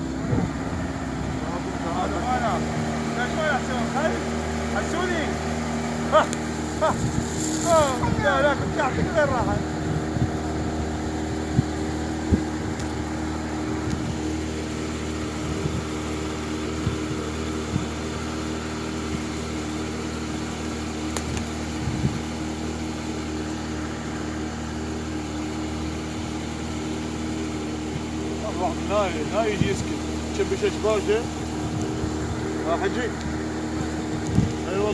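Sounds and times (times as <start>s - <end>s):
small boat engine running: 0.0s - 34.9s.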